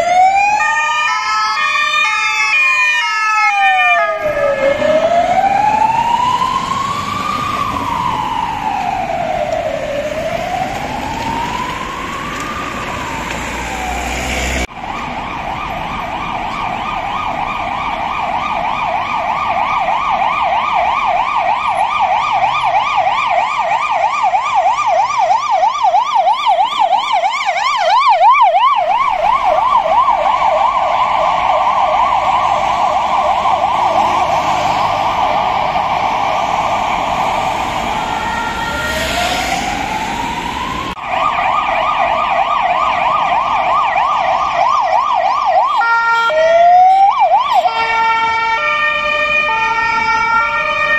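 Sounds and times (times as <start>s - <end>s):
ambulance siren wailing: 0.0s - 50.9s
ambulance siren yelping: 0.0s - 50.9s.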